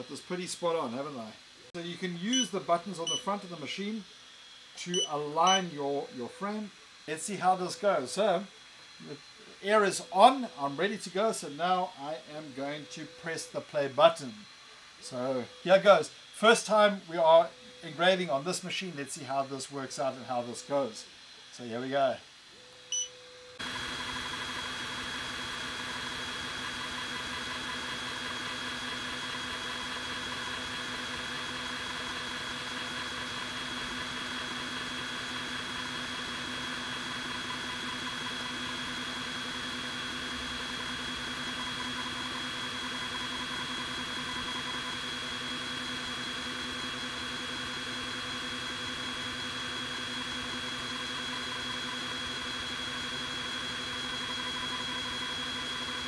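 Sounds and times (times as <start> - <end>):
laser engraver humming and hissing: 0.0 - 56.0.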